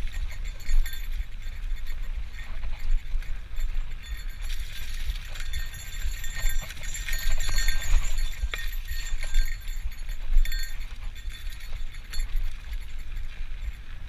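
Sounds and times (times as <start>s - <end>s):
bicycle rattling and clinking: 0.0s - 14.0s
wind rumble on microphone: 0.0s - 14.0s.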